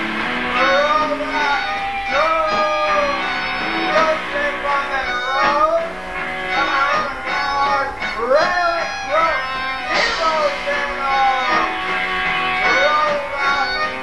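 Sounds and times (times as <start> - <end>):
guitar: 0.0 - 14.0
person singing: 0.4 - 14.0.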